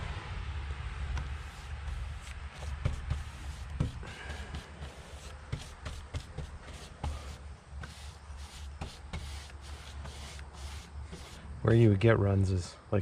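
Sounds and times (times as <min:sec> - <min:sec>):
steady low hum: 0:00.0 - 0:13.0
paint brushing or rolling: 0:01.2 - 0:12.1.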